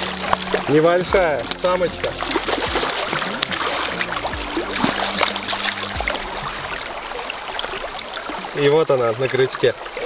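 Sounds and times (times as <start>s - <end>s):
river water running over shallows: 0.0s - 10.0s
small water splashes: 0.0s - 10.0s.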